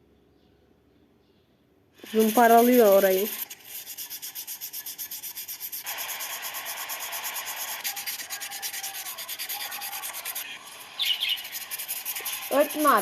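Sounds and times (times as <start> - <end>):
sanding car bodywork: 2.1 - 13.0.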